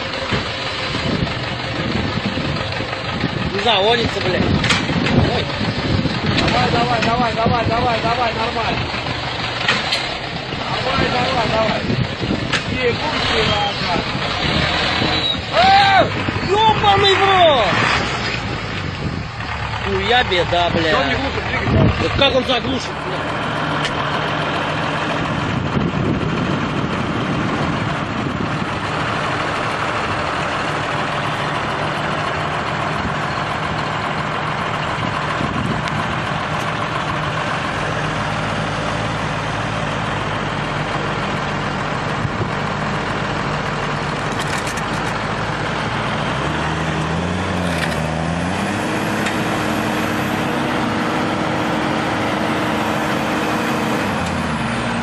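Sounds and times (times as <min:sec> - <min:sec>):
engine with higher hum: 0:00.0 - 0:55.0
heavy vehicle engine running: 0:00.0 - 0:55.0.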